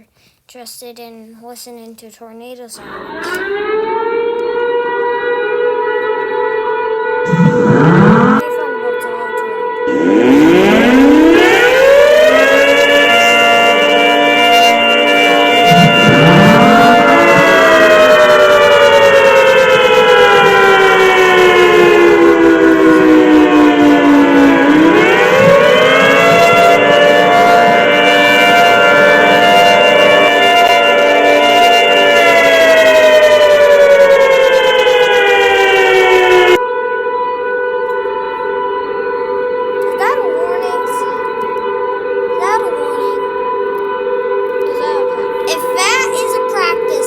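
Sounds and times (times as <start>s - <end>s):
tornado warning siren winding down: 2.8s - 47.0s.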